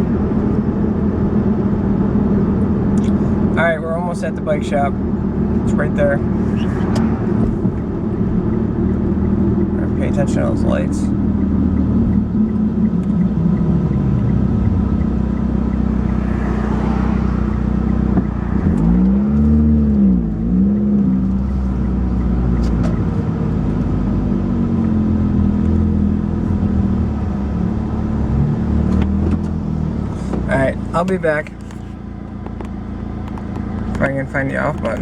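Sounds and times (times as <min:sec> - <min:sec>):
car engine with leaking exhaust: 0:00.0 - 0:35.0.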